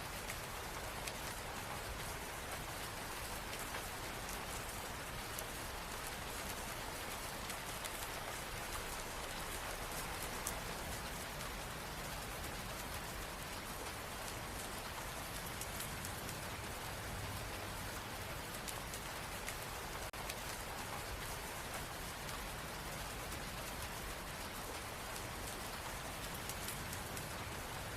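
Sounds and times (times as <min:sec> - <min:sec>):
rain falling: 0:00.0 - 0:27.9
raindrops pattering: 0:00.0 - 0:27.9.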